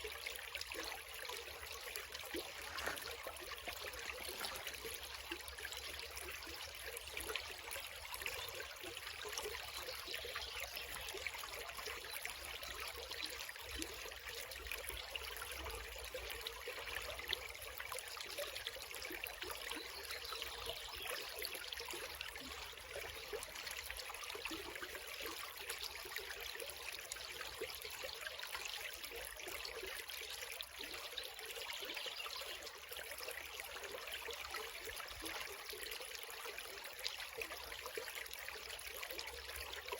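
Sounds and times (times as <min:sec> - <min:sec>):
creek water trickling: 0:00.0 - 0:39.9.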